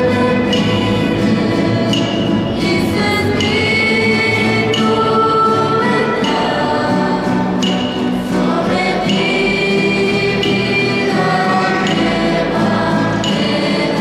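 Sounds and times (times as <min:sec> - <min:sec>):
choir singing slow song: 0:00.0 - 0:14.0.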